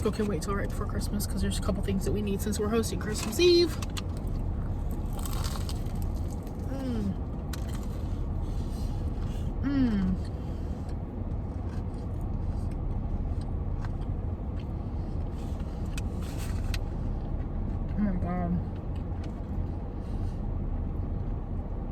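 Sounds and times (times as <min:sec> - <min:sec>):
car rumble inside cabin: 0:00.0 - 0:21.9.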